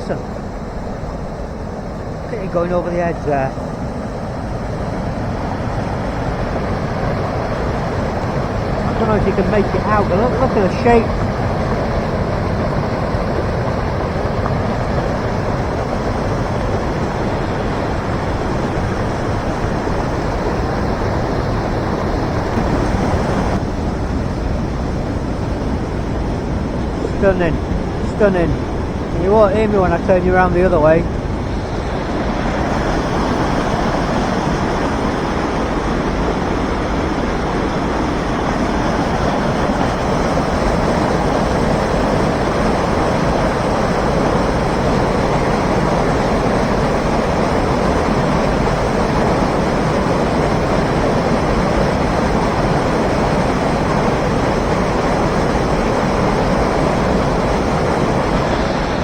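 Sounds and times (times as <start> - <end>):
waterfall rushing: 0.0 - 23.9, 24.9 - 59.0.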